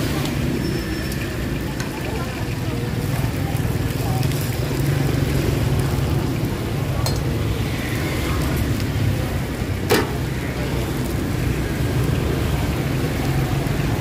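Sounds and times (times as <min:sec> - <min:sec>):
street traffic hum: 0:00.0 - 0:14.0.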